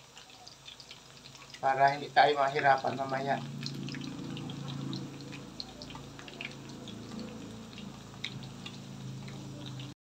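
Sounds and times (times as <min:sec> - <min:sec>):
bananas frying in oil: 0:00.0 - 0:10.0.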